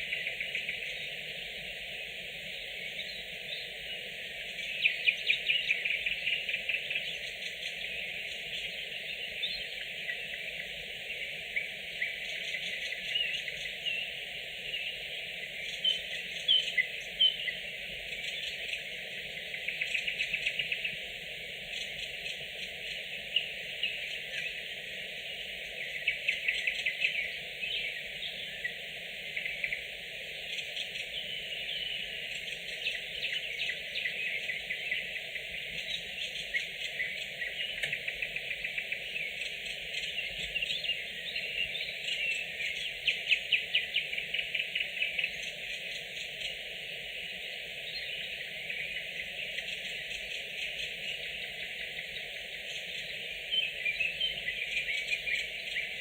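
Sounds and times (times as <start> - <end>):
distant birdsong: 0.0 - 56.0
nightingales singing: 0.0 - 56.0.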